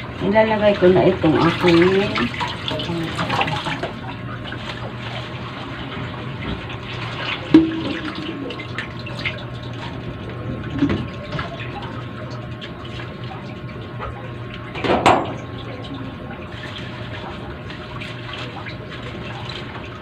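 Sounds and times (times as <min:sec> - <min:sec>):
broth bubbling: 0:00.0 - 0:20.0.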